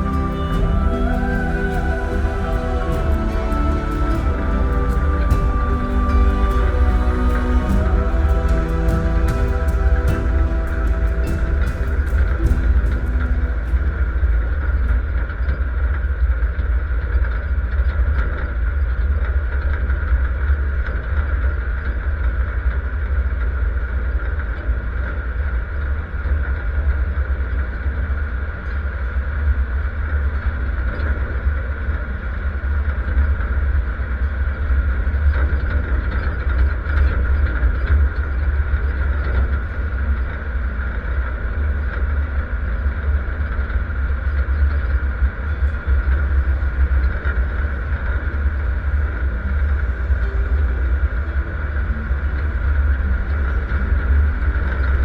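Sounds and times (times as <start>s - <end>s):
engine low rumble: 0.0s - 55.0s.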